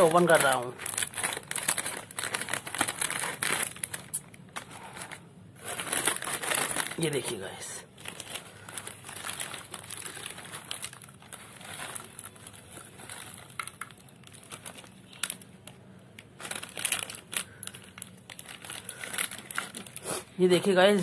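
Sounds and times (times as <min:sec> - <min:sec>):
plastic snack packet crinkling: 0:00.0 - 0:21.0.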